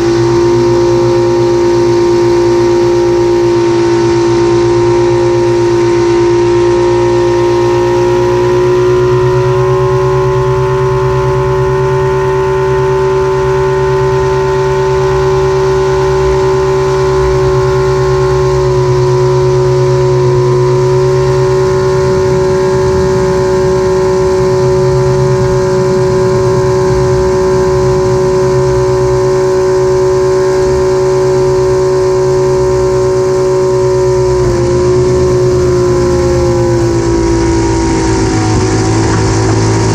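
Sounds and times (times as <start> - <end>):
piston aircraft engine at high power: 0.0 - 39.9.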